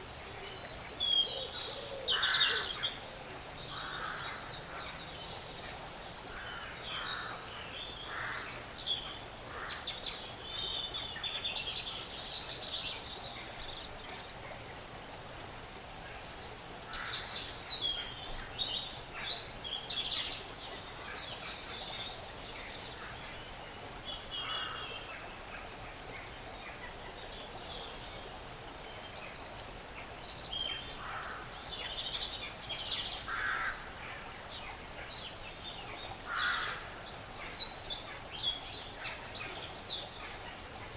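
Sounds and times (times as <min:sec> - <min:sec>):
forest ambience hiss: 0:00.0 - 0:40.9.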